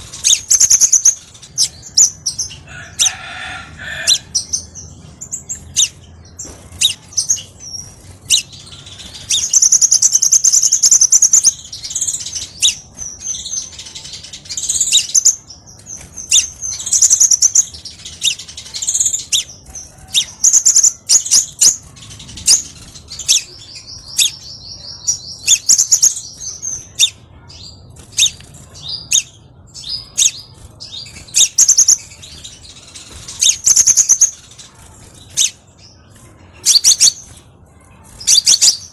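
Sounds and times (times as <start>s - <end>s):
bird chirping and trilling: 0.0s - 38.9s.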